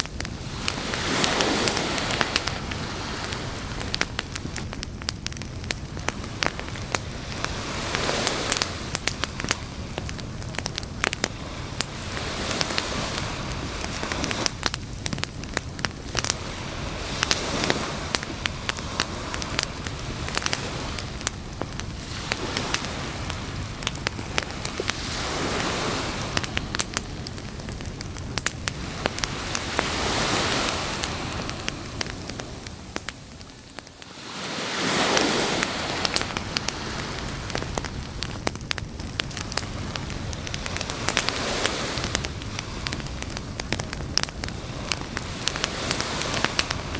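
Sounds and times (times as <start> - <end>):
campfire crackling and popping: 0.0 - 46.9
waves washing ashore: 0.0 - 46.9.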